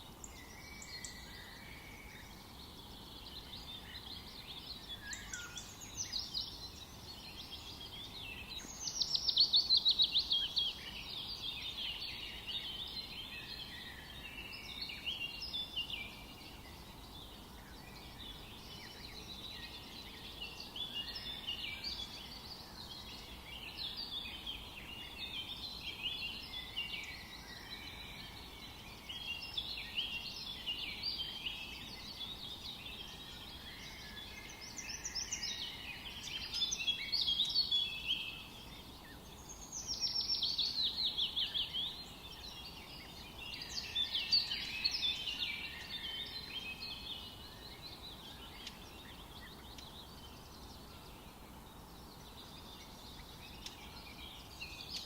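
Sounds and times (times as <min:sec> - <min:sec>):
faint forest background noise: 0:00.0 - 0:55.0
songbirds singing: 0:00.0 - 0:55.0.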